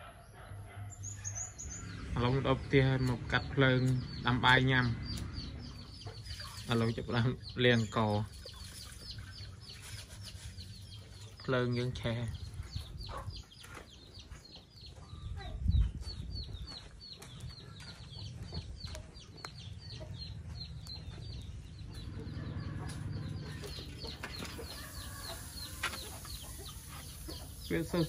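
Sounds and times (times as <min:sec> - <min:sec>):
chickens clucking: 0:02.8 - 0:28.0.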